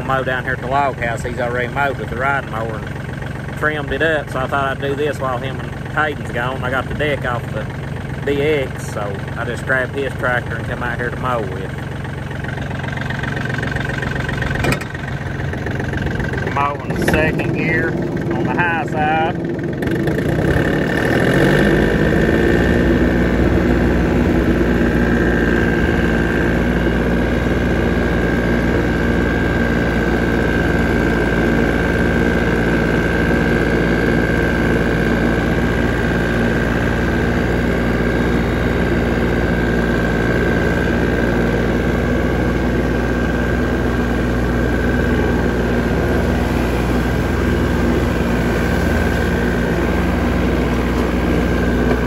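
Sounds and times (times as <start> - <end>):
mower high whine: 0.0 - 52.0
tractor diesel engine running: 0.0 - 52.0.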